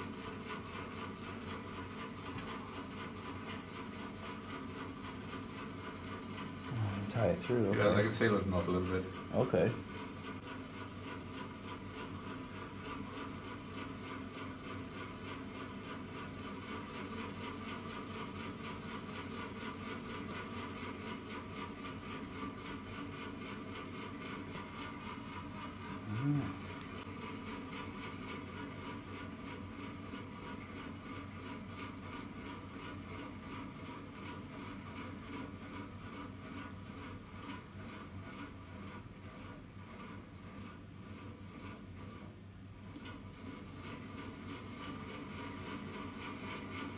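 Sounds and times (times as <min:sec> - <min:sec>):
whirring machine hum: 0:00.0 - 0:46.9.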